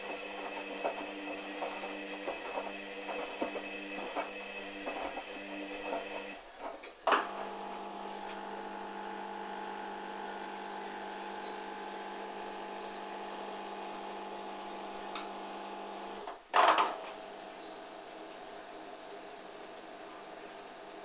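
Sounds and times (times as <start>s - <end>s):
washing machine spinning hum: 0.0s - 21.0s.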